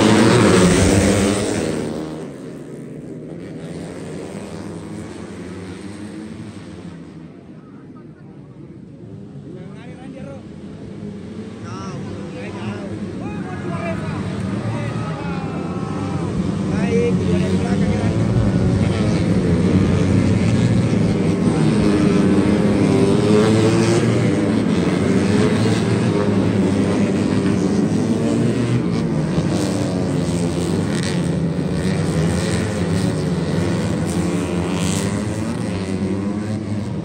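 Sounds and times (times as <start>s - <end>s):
racing motorcycles at high revs: 0.0s - 7.3s, 9.3s - 37.0s.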